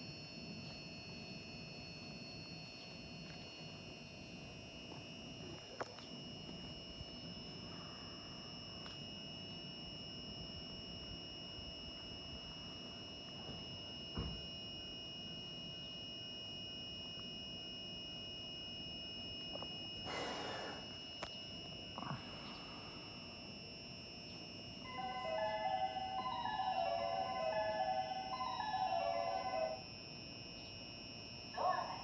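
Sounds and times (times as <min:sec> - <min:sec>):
high-pitched electrical whine: 0:00.0 - 0:32.0.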